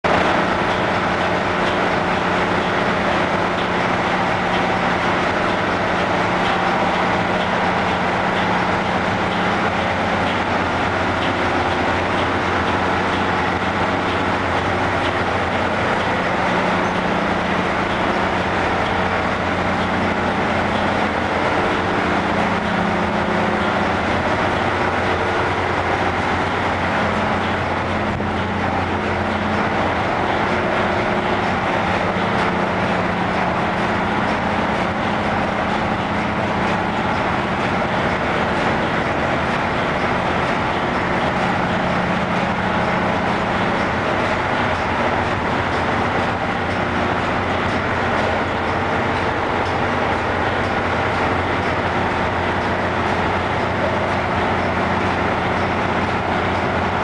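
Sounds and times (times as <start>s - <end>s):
diesel engine droning: 0.0s - 57.0s
mechanical clatter: 0.1s - 57.0s.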